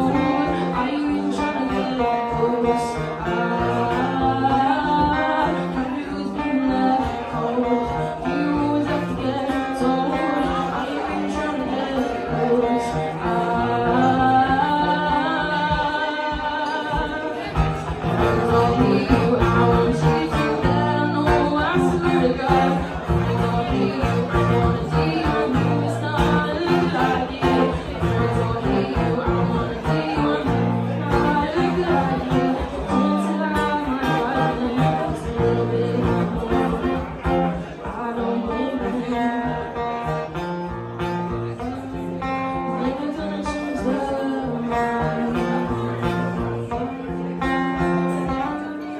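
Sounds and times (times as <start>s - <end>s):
acoustic guitar: 0.0s - 48.9s
woman singing: 0.0s - 48.9s.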